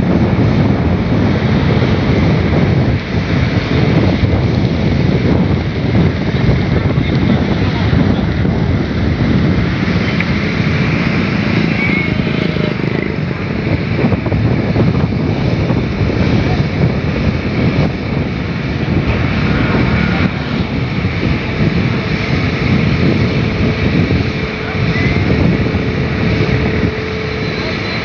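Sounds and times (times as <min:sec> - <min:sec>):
engine running: 0:00.0 - 0:28.0
wind buffeting microphone: 0:00.0 - 0:28.0.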